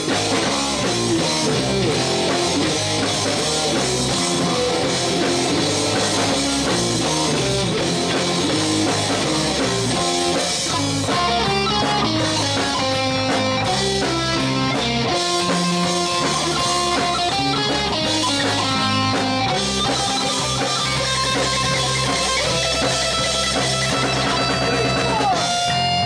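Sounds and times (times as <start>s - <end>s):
bass guitar: 0.0s - 26.0s
drum kit steady beat: 0.0s - 26.0s
electric guitar: 0.0s - 26.0s.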